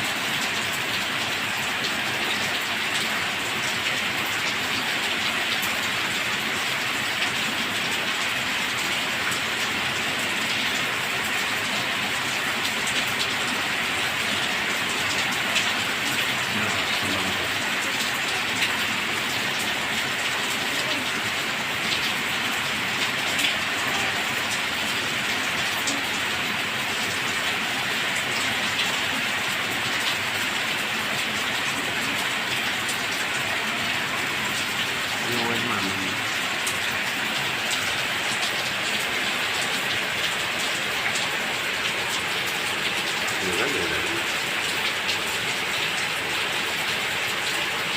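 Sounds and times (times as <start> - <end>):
steady rain hissing: 0.0 - 47.9.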